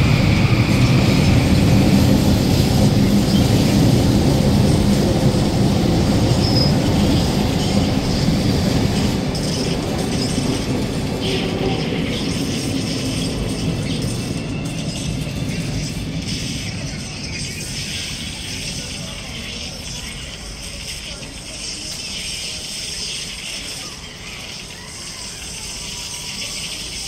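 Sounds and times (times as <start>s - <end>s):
train rumbling on rails: 0.0s - 27.0s.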